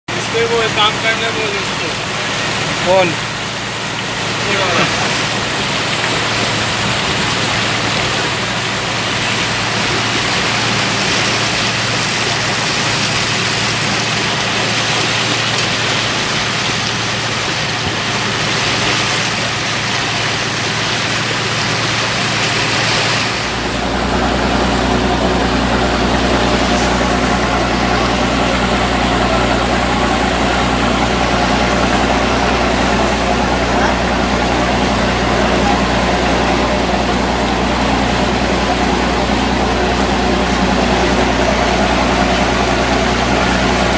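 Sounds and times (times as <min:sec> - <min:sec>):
boat engine humming: 0:00.0 - 0:43.9
water rushing past a boat: 0:00.1 - 0:43.9.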